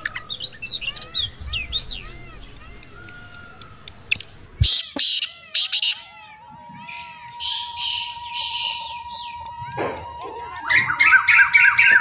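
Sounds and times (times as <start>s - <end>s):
birds squawking: 0.0s - 12.0s
faint bird chirping: 0.0s - 12.0s.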